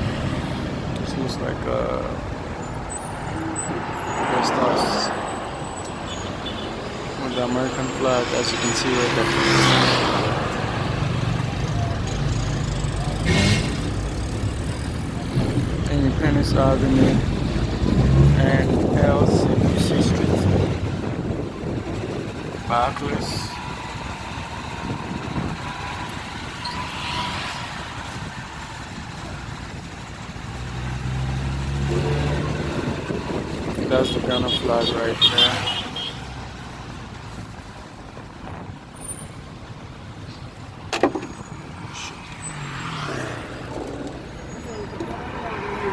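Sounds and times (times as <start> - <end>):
city street traffic: 0.0 - 45.9.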